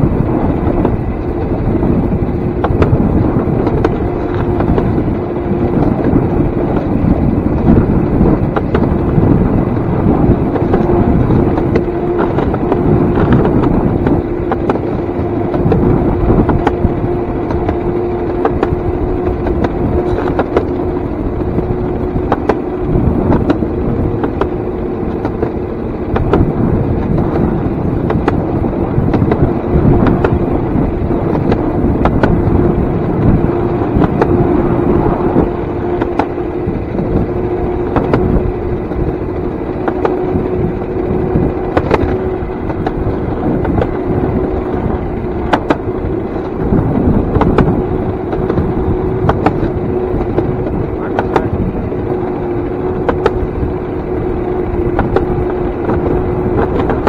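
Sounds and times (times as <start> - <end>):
steady motor whine: 0.0 - 57.0
steel wheels rumbling on rails: 0.0 - 57.0
wheels clacking over rail joints: 0.0 - 57.0.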